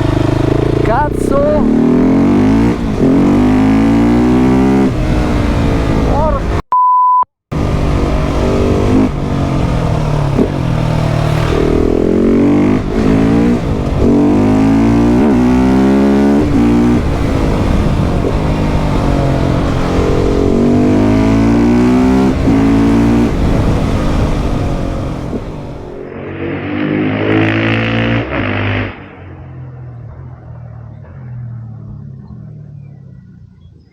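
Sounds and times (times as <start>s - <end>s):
motorcycle engine accelerating hard: 0.0s - 6.6s, 7.5s - 33.9s.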